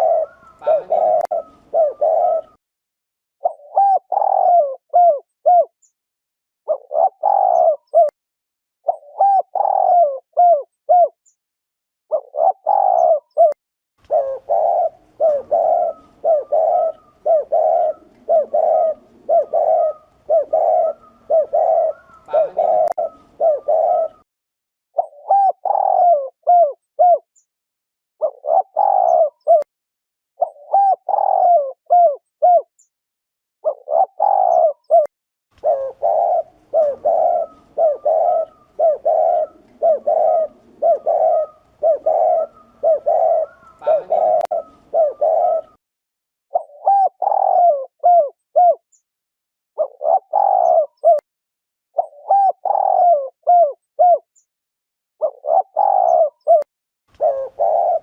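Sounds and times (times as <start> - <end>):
dove cooing: 0.0 - 2.6, 3.4 - 5.7, 6.7 - 8.1, 8.9 - 11.2, 12.1 - 24.2, 25.0 - 27.2, 28.2 - 29.7, 30.4 - 32.7, 33.6 - 45.8, 46.5 - 48.8, 49.8 - 51.2, 52.0 - 54.3, 55.2 - 58.0.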